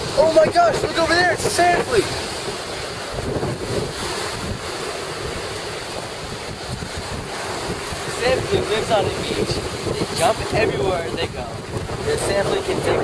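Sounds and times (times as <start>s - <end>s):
ocean surf washing: 0.0s - 13.0s
wind buffeting microphone: 0.0s - 13.0s.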